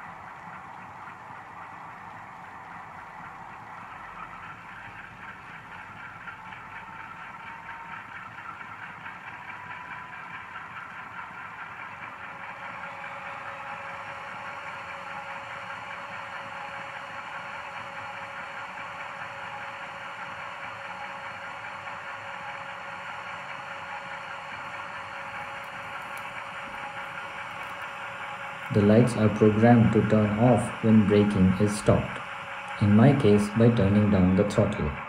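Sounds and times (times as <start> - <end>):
model locomotive engine sound: 0.0 - 35.0.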